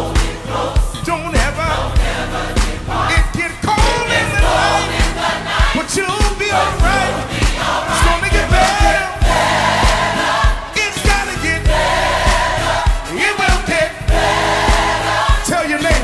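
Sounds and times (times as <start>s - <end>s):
gospel choir singing: 0.0s - 16.0s
kick drum beat: 0.0s - 16.0s
live band playing: 0.0s - 16.0s.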